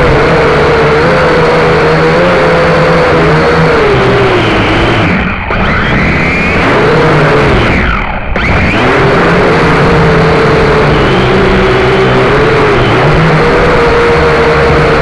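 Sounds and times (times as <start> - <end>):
quadcopter propellers whining: 0.0 - 15.0.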